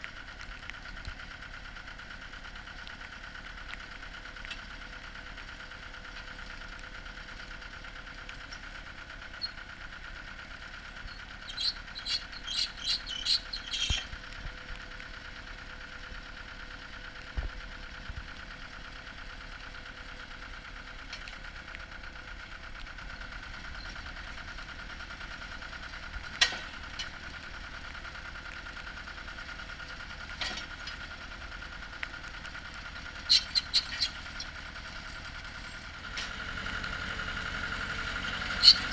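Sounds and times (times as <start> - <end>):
drilling rig engine running: 0.2 - 17.0, 17.6 - 38.9.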